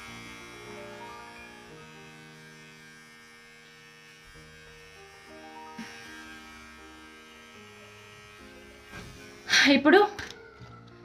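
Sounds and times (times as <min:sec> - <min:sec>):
soft music of held notes: 0:00.0 - 0:11.0.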